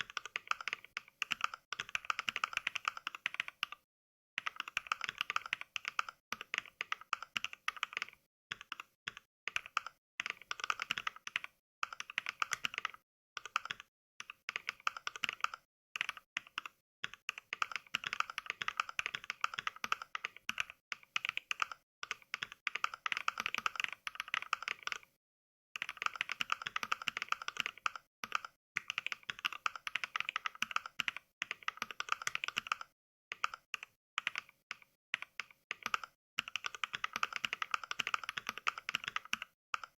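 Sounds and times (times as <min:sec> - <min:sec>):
mechanical keyboard typing clicks: 0:00.0 - 0:03.8, 0:04.4 - 0:25.1, 0:25.8 - 0:39.9.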